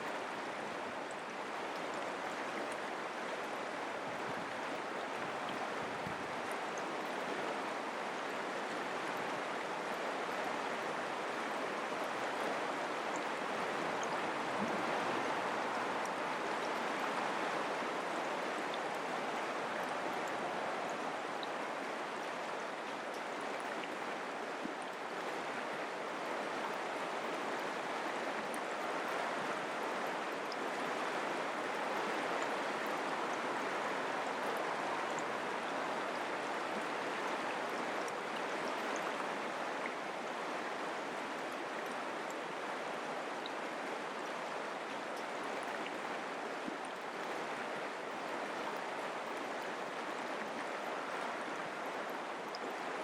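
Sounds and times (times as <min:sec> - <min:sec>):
creek flowing over rocks: 0:00.0 - 0:53.0.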